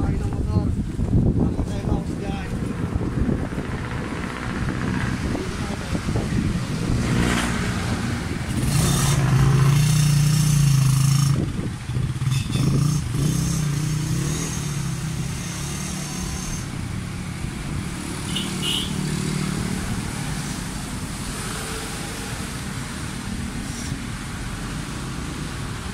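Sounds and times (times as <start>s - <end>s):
motorcycle engine revving: 2.4s - 25.9s.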